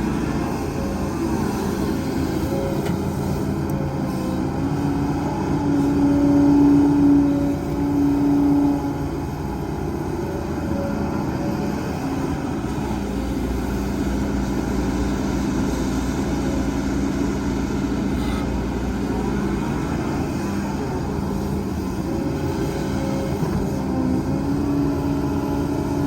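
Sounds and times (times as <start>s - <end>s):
diesel machinery engine rumble: 0.0s - 26.0s.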